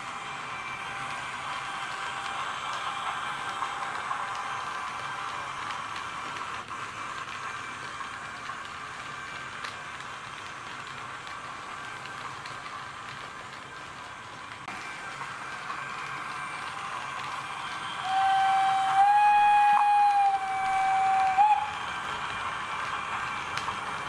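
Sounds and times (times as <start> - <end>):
model train mechanical hum: 0.0 - 24.0
wheels clicking on track: 0.0 - 24.0.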